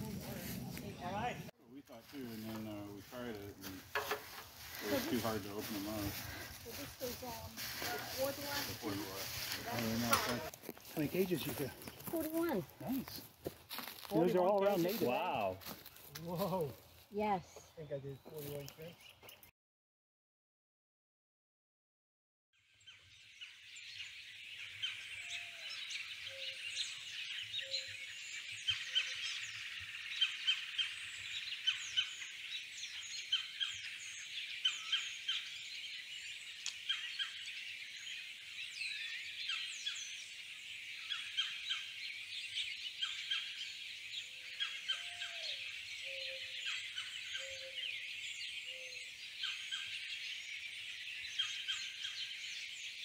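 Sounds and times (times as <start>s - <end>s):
birds chirping chorus: 0.0s - 19.5s, 22.6s - 53.0s.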